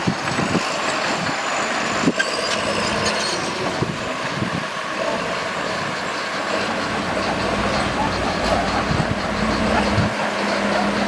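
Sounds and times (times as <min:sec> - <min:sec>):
earthmoving machinery noise: 0:00.0 - 0:11.0.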